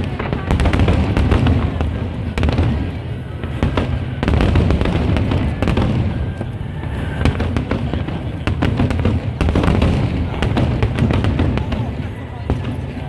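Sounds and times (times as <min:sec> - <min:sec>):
fireworks booming: 0:00.0 - 0:13.0
fireworks crackling: 0:00.0 - 0:13.0.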